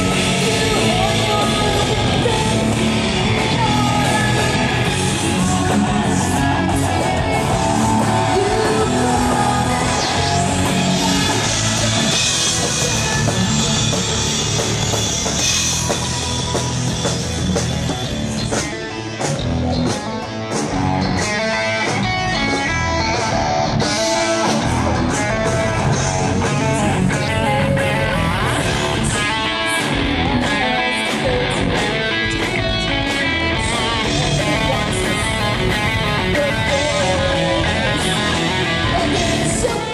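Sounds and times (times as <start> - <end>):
guitar-driven rock music: 0.0 - 39.9.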